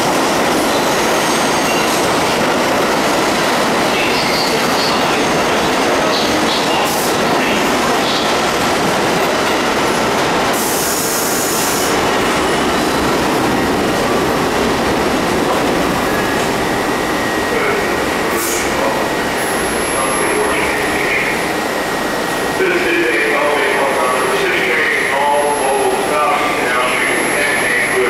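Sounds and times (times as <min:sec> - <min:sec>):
subway train braking to a stop: 0:00.0 - 0:28.0.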